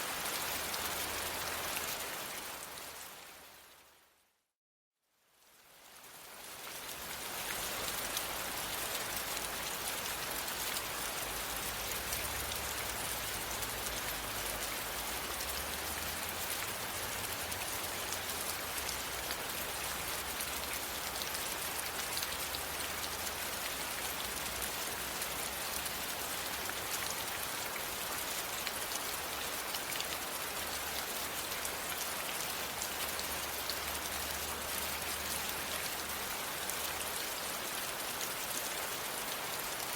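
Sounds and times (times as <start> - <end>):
steady rain pattering: 0.0 - 4.2, 5.1 - 39.9.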